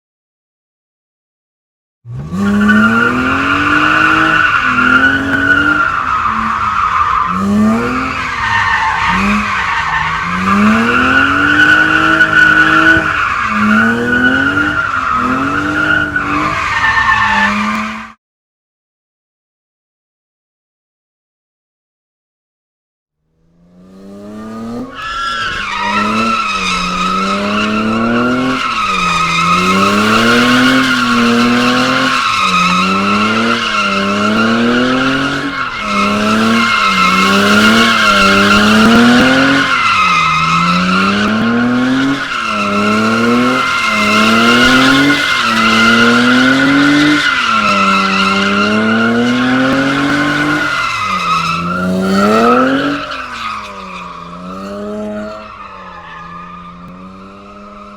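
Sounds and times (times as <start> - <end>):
car engine revving: 2.1 - 18.1, 23.3 - 57.9
tyre squeal: 2.2 - 18.2, 24.5 - 57.9.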